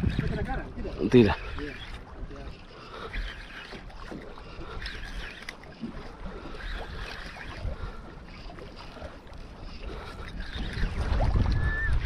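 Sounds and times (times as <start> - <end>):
water slapping boat hull: 0.0 - 12.0
wind buffeting microphone: 0.0 - 12.0.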